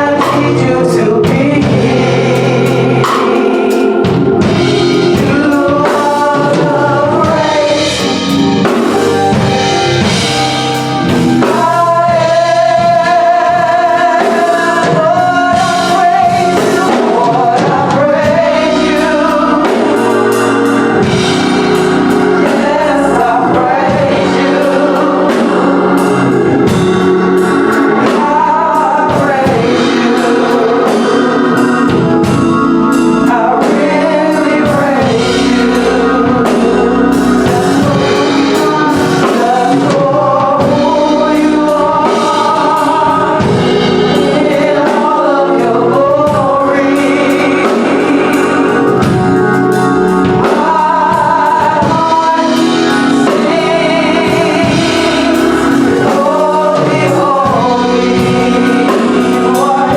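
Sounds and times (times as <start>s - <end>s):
drum kit and band: 0.0s - 59.9s
group singing gospel: 0.0s - 59.9s.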